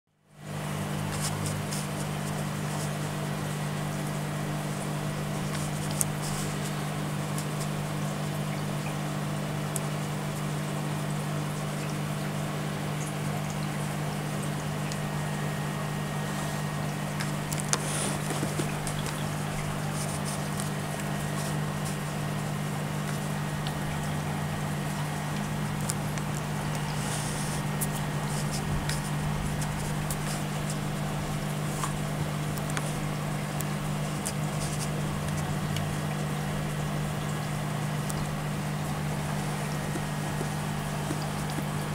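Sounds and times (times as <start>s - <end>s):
aquarium equipment hum and water: 0.1s - 41.9s.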